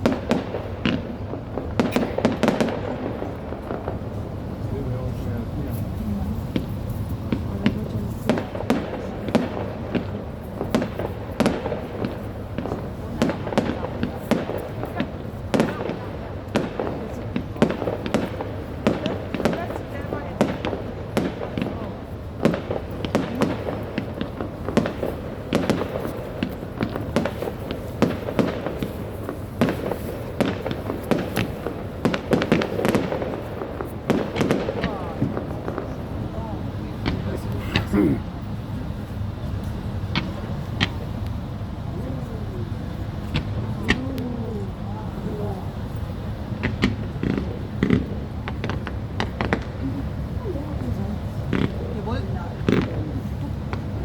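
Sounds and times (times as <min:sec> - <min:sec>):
fireworks bangs and cracks: 0:00.0 - 0:54.0.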